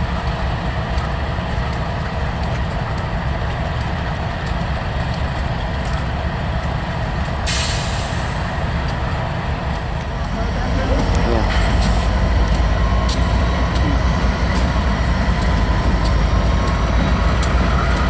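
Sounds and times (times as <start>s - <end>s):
freight train rumbling: 0.0s - 18.0s
faint irregular clicks: 0.1s - 7.5s, 8.4s - 18.0s.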